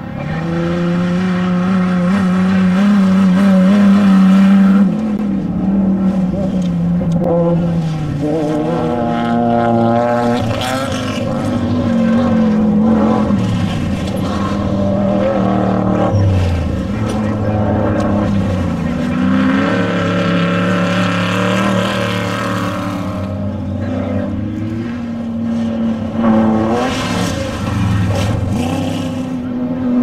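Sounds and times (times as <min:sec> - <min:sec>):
race vehicle engines passing: 0:00.0 - 0:30.0.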